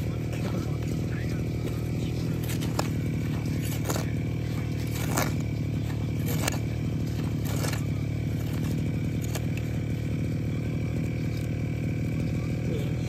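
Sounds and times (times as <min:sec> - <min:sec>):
hand hoe scraping stony soil: 0:00.0 - 0:12.3
engine drone: 0:00.0 - 0:13.0.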